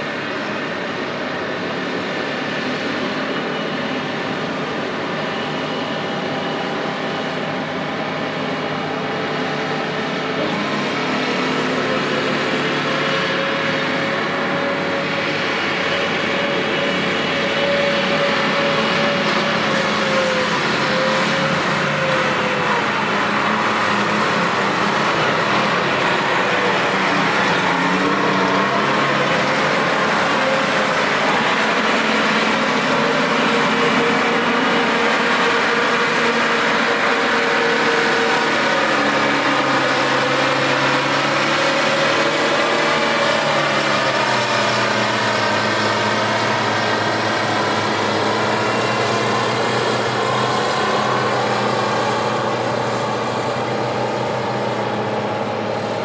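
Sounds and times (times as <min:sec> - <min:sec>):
diesel engines running hard: 0:00.0 - 0:56.0.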